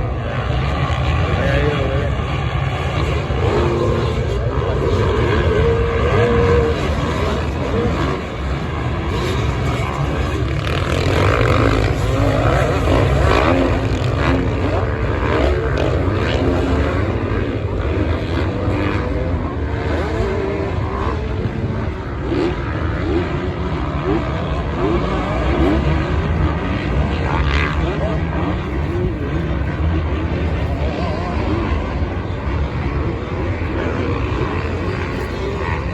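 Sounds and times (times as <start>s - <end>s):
motocross bike engines revving: 0.0s - 35.9s.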